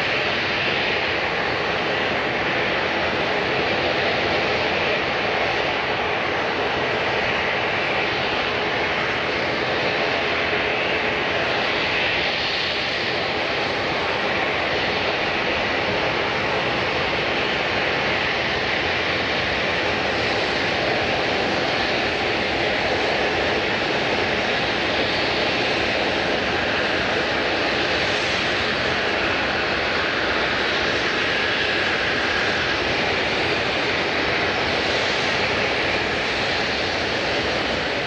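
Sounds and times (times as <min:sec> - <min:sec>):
airliner engines running: 0:00.0 - 0:38.0.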